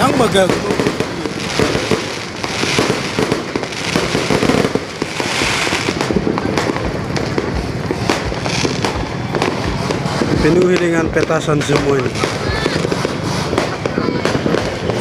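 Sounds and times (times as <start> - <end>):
fireworks crackling: 0.0 - 15.0
loud firework bangs: 0.0 - 15.0.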